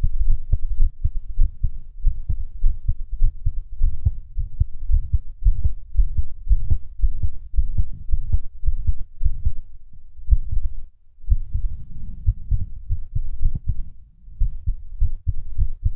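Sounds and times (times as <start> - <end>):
heartbeat thumps: 0.0 - 15.9.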